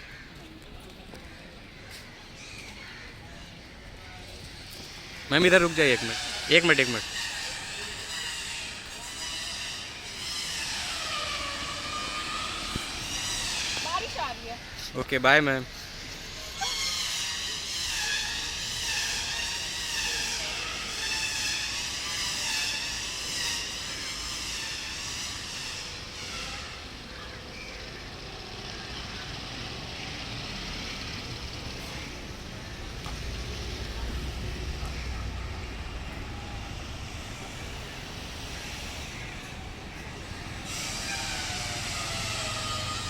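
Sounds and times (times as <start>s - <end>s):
vehicle low rumble: 0.0s - 15.0s, 15.6s - 43.0s
street traffic noise: 0.0s - 43.0s
indistinct voices: 3.1s - 43.0s.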